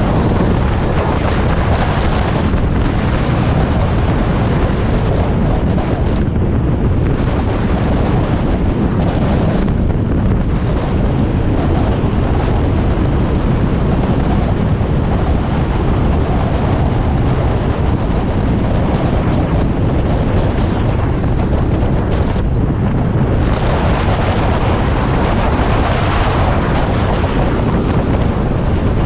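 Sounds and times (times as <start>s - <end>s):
wind rush on microphone: 0.0s - 29.0s.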